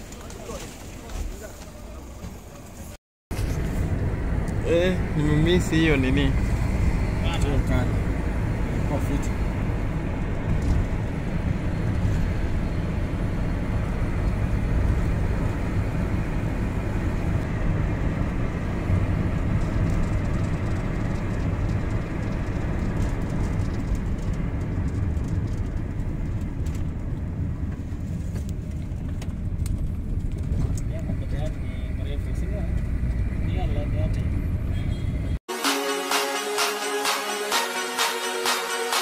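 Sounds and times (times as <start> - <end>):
vehicle interior road rumble: 0.0 - 35.4.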